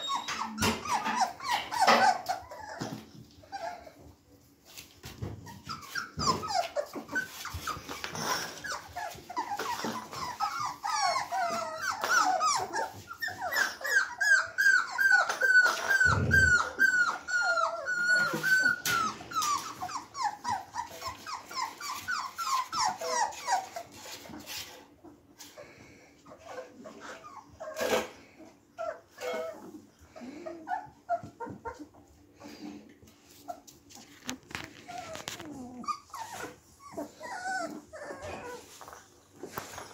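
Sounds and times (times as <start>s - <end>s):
puppies whining and yelping: 0.0s - 39.9s.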